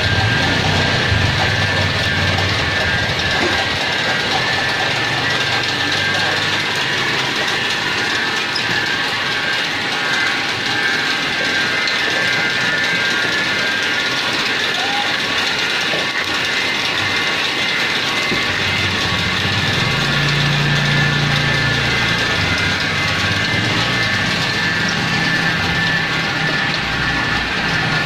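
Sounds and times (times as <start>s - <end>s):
mechanical clatter of rollers: 0.0s - 28.0s
steady high whine: 0.0s - 28.0s.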